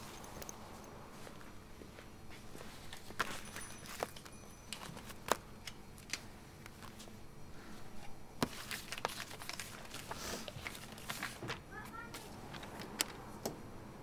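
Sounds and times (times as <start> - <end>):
handling rustles: 0.0 - 7.2, 7.9 - 13.2.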